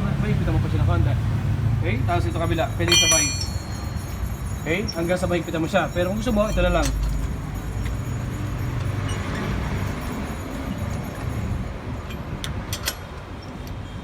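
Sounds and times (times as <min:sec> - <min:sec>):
road traffic rumbling: 0:00.0 - 0:14.0.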